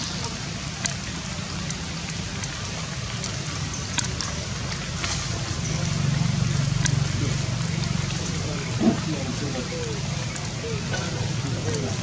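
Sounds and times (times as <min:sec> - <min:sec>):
rain on forest leaves: 0:00.0 - 0:12.0
sharp drips: 0:00.0 - 0:12.0.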